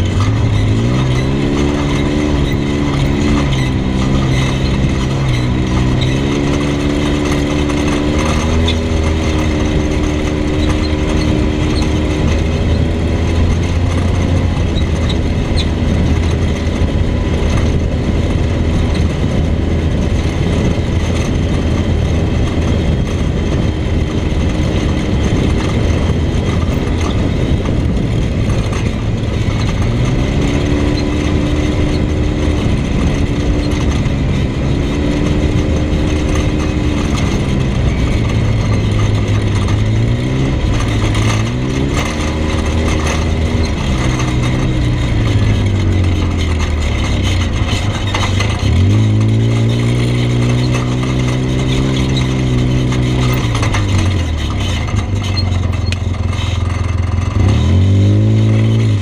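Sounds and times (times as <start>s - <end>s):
steady rushing noise: 0.0s - 59.0s
vehicle engine revving: 0.0s - 59.0s.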